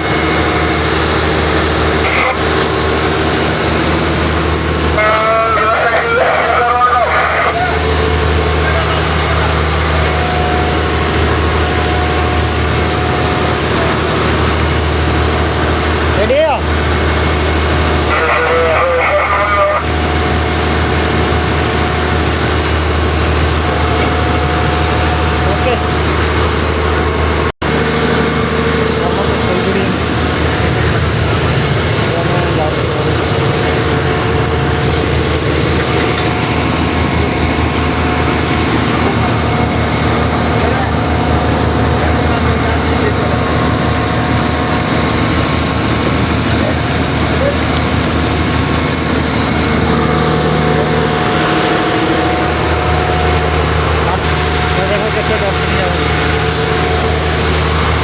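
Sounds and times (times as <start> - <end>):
heavy engine humming: 0.0 - 58.0.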